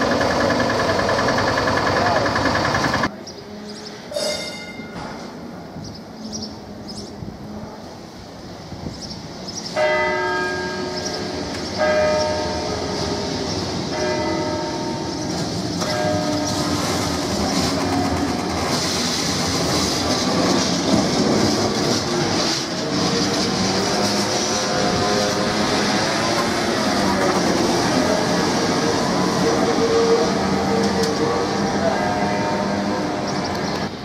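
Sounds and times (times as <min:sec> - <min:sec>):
tram warning gong: 0:00.0 - 0:05.5, 0:09.7 - 0:34.0
tram rumbling and screeching on rails: 0:00.0 - 0:34.0.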